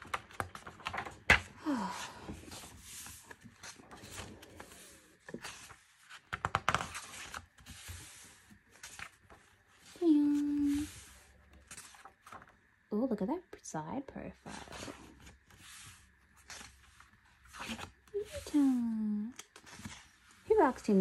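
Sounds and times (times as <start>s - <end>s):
paper pages rustling: 0.0s - 12.6s, 14.4s - 21.0s.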